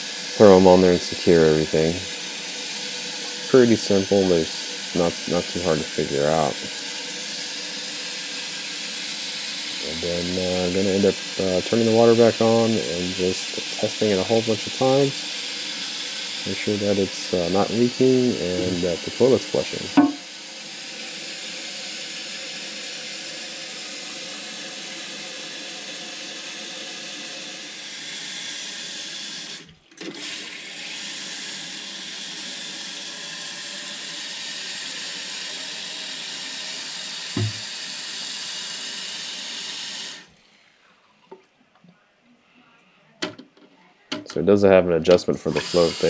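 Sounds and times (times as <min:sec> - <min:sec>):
toilet flushing and refilling: 0:00.0 - 0:40.3.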